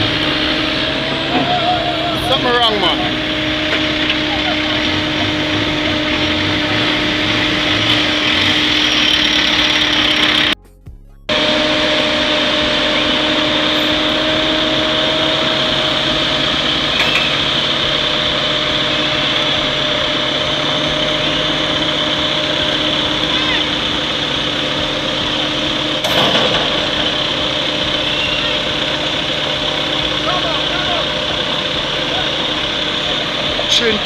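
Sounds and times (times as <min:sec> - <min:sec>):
paving machine engine droning: 0:00.0 - 0:10.6, 0:11.2 - 0:34.0.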